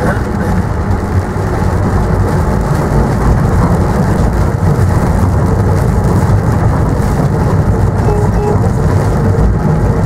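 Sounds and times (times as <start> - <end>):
low rumble of train running: 0.0 - 10.0.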